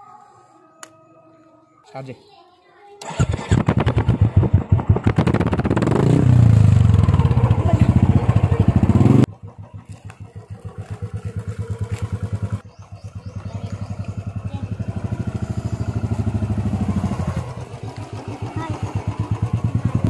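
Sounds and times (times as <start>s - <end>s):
motorcycle engine revving: 3.0s - 20.0s.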